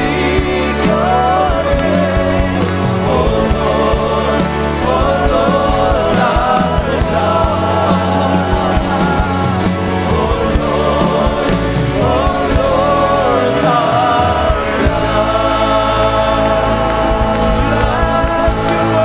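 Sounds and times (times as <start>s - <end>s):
worship music with singing: 0.0s - 19.0s.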